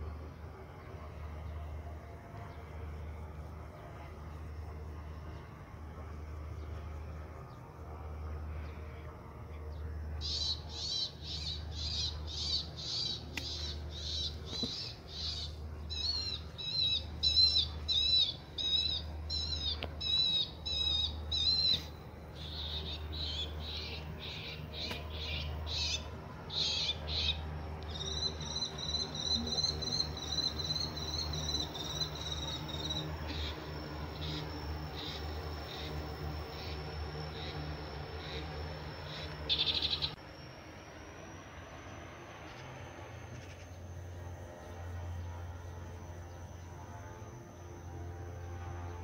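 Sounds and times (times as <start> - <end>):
low hum: 0.0 - 49.0.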